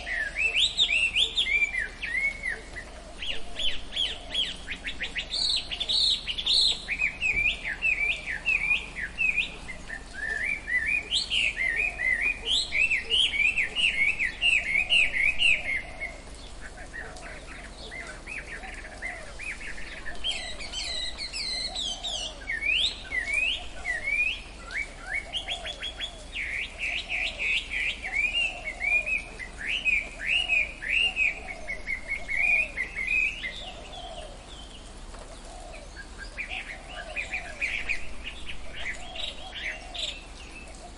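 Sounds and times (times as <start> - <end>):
birds chirping in chorus: 0.0 - 40.9
fainter lower bird calls: 0.0 - 40.9.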